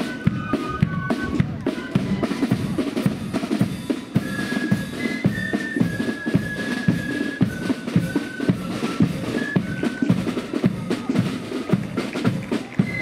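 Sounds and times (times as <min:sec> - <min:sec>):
high flute melody: 0:00.0 - 0:13.0
snare drums: 0:00.0 - 0:13.0.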